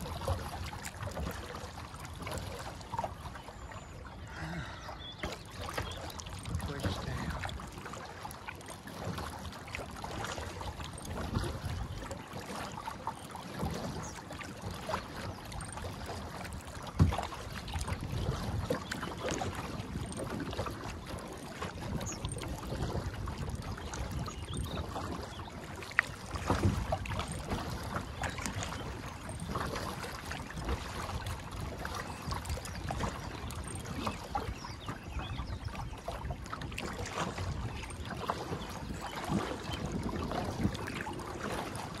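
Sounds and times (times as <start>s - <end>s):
paddle splashing: 0.0s - 42.0s
water lapping at hull: 0.0s - 42.0s.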